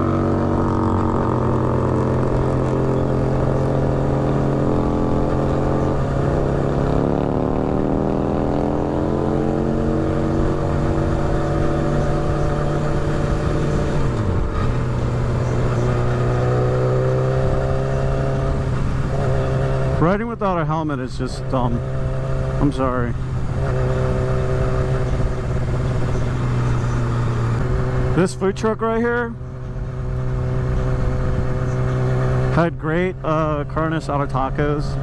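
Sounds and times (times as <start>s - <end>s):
motorcycle engine while riding: 0.0s - 35.0s.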